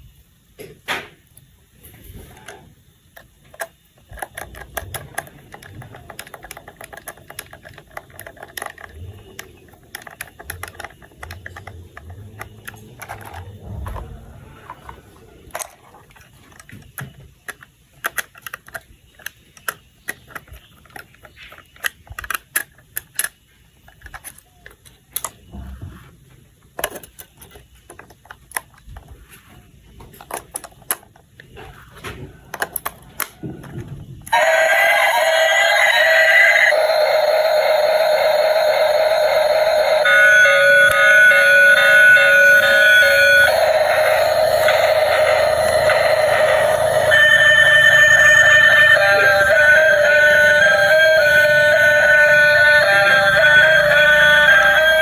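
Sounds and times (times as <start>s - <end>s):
plastic toy parts clicking: 2.3s - 14.2s, 14.8s - 25.5s, 26.6s - 29.3s, 30.0s - 55.0s.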